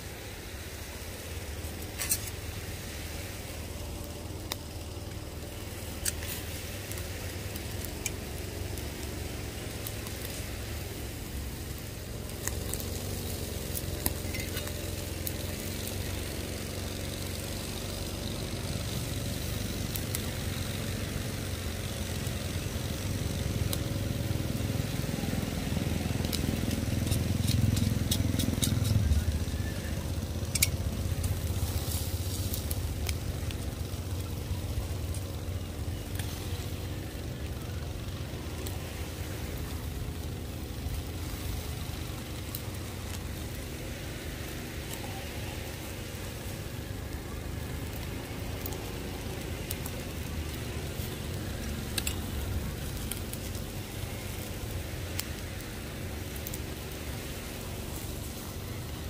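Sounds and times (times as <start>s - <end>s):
fire crackles and pops: 0.0s - 59.0s
steak sizzling over fire: 0.0s - 59.0s.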